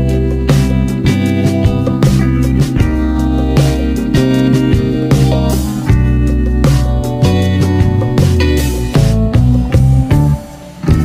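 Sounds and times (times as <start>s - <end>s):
instrumental music with guitar: 0.0s - 11.0s
steady beat: 0.0s - 11.0s.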